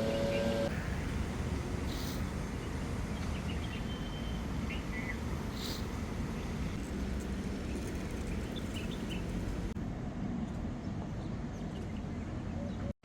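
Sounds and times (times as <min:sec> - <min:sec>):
low outdoor rumble: 0:00.0 - 0:12.9.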